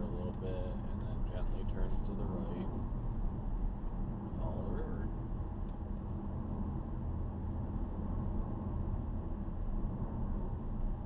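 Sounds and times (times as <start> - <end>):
car exhaust low hum: 0.0 - 11.0
road and tyre noise: 0.0 - 11.0.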